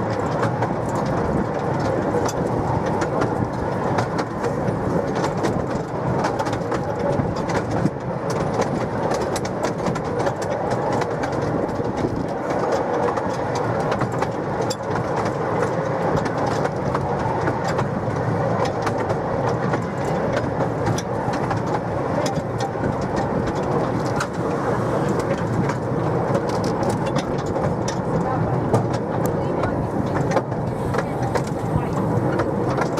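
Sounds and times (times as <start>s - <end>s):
miniature train rumbling: 0.0s - 32.9s
sharp track clicks: 0.0s - 32.9s.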